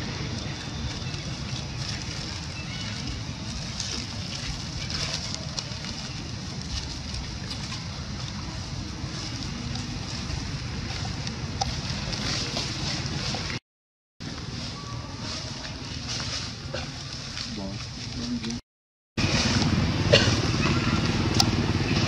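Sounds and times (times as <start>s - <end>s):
footsteps crackling dry leaves: 0.0s - 13.6s, 14.2s - 18.6s.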